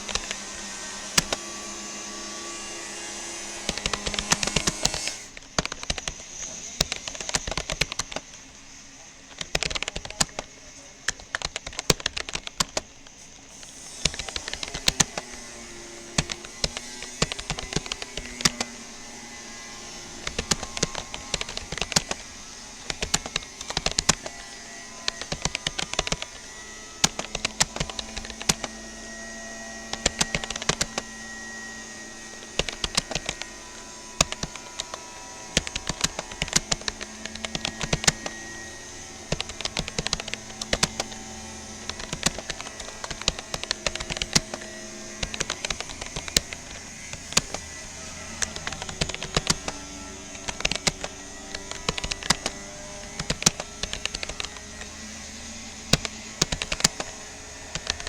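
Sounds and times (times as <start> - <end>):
computer keyboard keystrokes: 0.0 - 8.4, 9.2 - 58.0.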